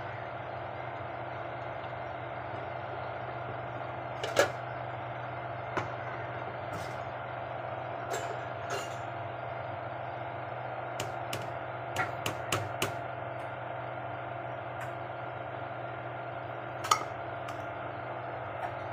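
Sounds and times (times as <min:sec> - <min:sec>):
steady hum: 0:00.0 - 0:18.9.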